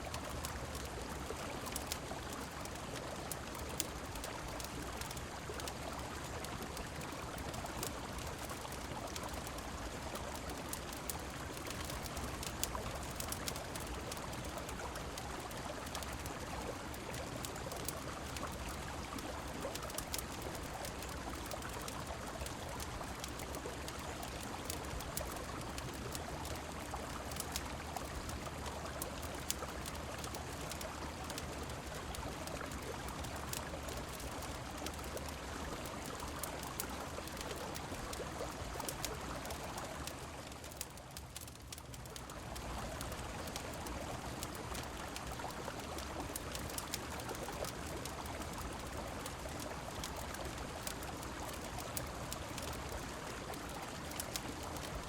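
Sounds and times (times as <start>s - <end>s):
rain: 0.0s - 55.0s
wood fire crackling and popping: 0.0s - 55.0s.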